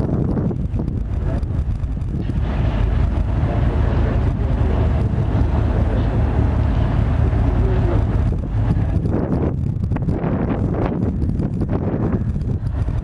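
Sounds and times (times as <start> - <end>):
boat motor low rumble: 0.0 - 13.0
wind buffeting microphone: 0.0 - 13.0.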